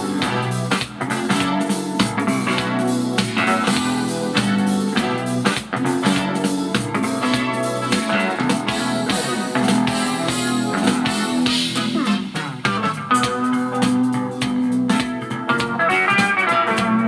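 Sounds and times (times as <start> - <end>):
slow pop song instrumental: 0.0 - 17.0.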